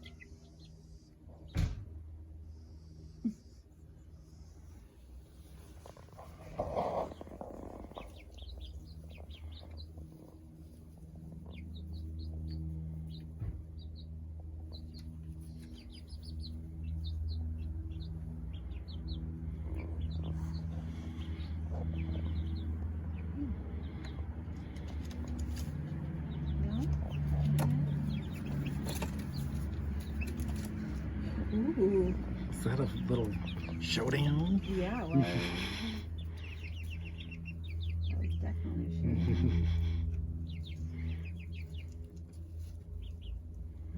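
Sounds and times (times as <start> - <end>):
chicks peeping: 0.0 - 2.4, 3.0 - 43.9
steady low hum: 0.0 - 43.9.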